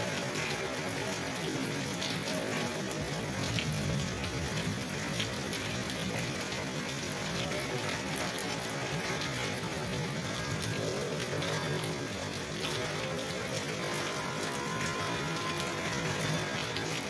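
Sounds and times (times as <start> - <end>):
raindrop ticks: 0.0 - 17.0
steady rain hiss: 0.0 - 17.0.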